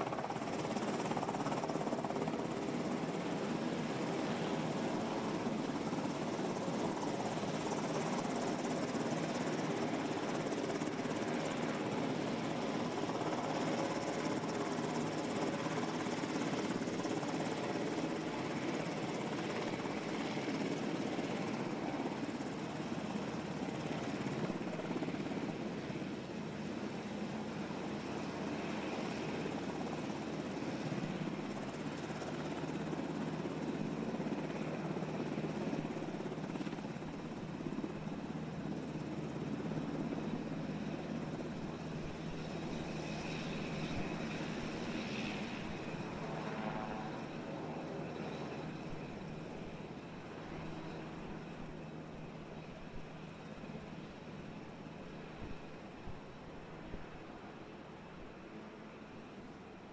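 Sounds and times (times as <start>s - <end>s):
faint steady tones: 0.0s - 59.9s
helicopter engine and rotor: 0.0s - 59.9s.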